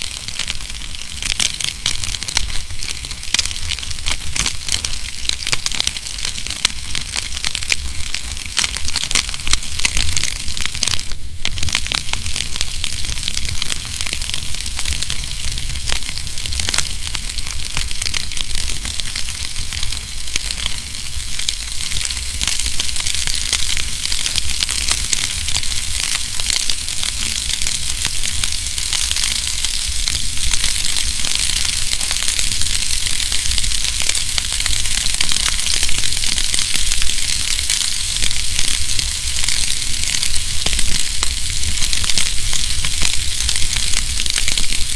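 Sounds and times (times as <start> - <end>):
sharp snaps and pops: 0.0 - 44.9
wood fire crackling: 0.0 - 44.9.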